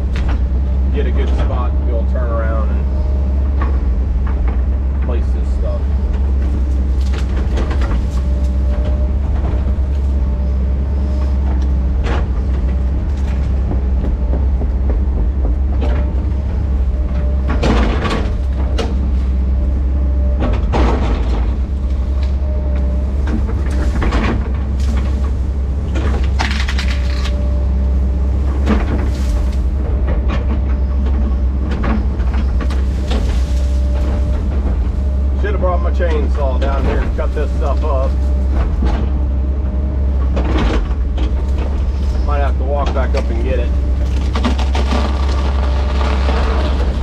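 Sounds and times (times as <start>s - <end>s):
diesel engine running under load: 0.0s - 47.0s
branches cracking and scraping: 2.4s - 14.2s, 15.9s - 47.0s.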